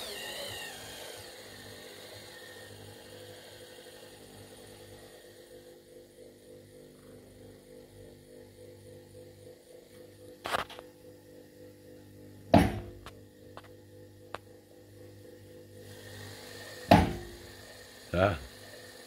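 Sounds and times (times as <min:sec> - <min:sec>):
milling machine power feed hum: 0:00.0 - 0:19.0.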